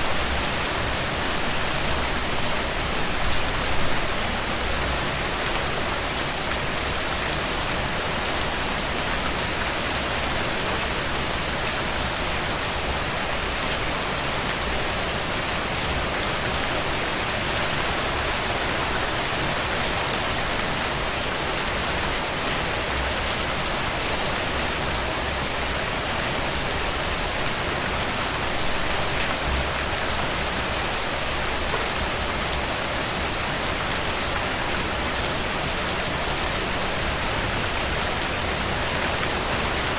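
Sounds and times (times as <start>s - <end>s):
rain falling on a tent: 0.0s - 39.9s.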